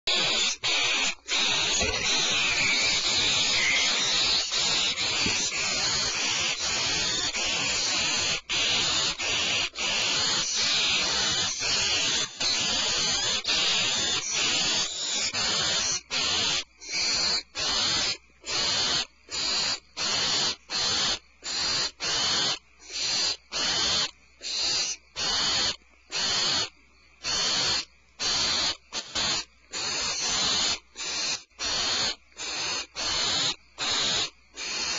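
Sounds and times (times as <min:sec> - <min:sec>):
barn owls hissing: 0:00.0 - 0:34.9.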